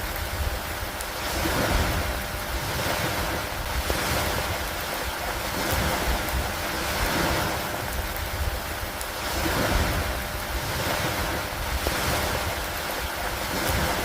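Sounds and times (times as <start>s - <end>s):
steady rain hissing: 0.0s - 14.0s.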